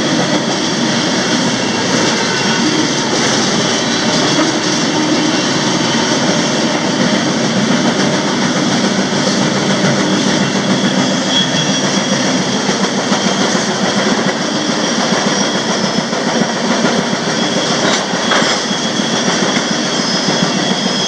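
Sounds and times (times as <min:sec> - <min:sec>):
freight train rolling roar: 0:00.0 - 0:21.0.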